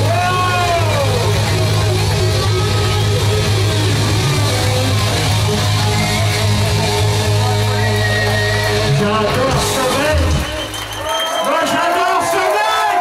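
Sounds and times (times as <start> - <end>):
bass and drums: 0.0 - 11.2
electric guitars: 0.0 - 11.3.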